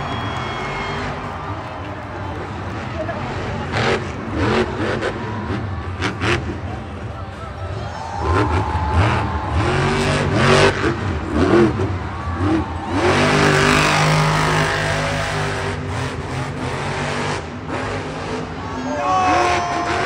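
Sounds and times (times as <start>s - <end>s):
truck engine revving hard: 2.4s - 20.0s.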